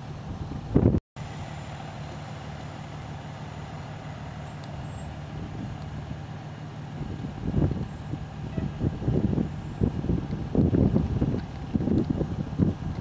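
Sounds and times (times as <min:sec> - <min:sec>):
outboard motors idling: 0:00.0 - 0:13.0.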